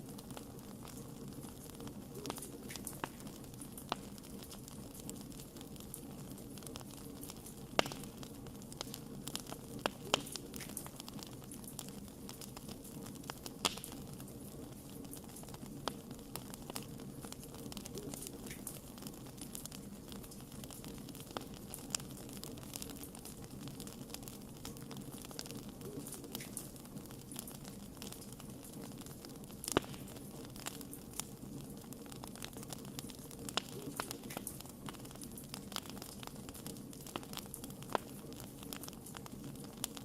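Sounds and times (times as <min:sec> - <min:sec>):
low hiss: 0:00.0 - 0:40.0
wood fire crackling and popping: 0:00.0 - 0:40.0.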